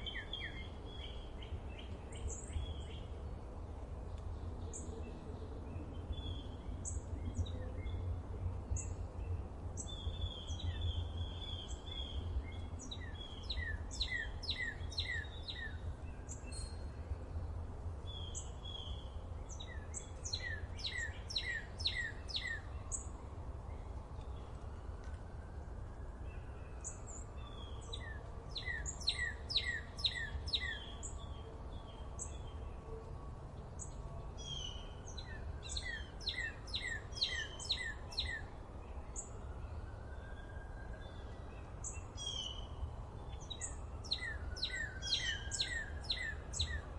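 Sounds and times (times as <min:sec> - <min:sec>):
songbirds singing falling notes: 0:04.0 - 0:25.4, 0:26.2 - 0:40.0, 0:41.0 - 0:46.9.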